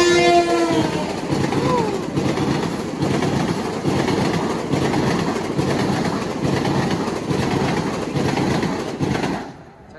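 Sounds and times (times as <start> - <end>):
train wheels clacking on rails: 0.0 - 9.8.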